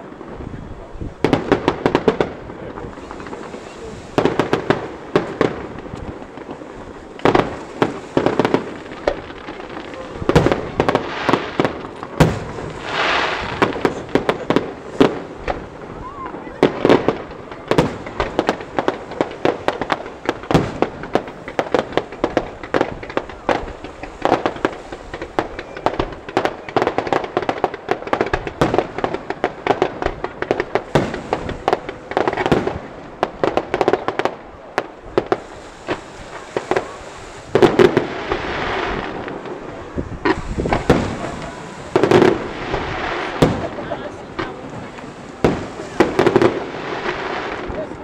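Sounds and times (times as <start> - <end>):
fireworks bangs and crackles: 0.0 - 48.0
fireworks hiss: 0.0 - 48.0.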